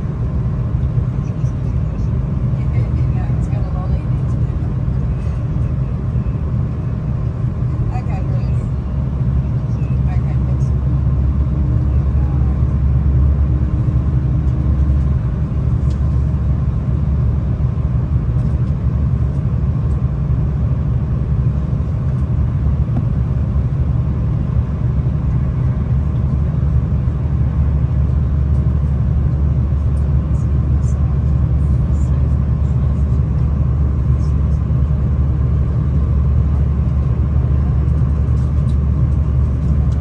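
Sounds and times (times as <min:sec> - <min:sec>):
train rumbling: 0:00.0 - 0:40.0.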